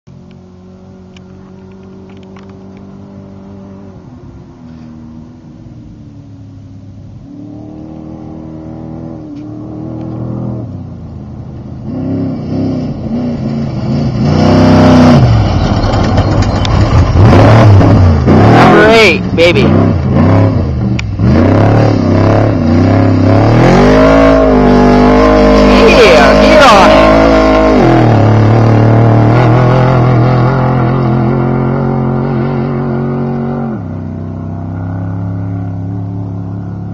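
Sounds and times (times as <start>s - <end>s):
truck engine revving: 7.2s - 36.9s.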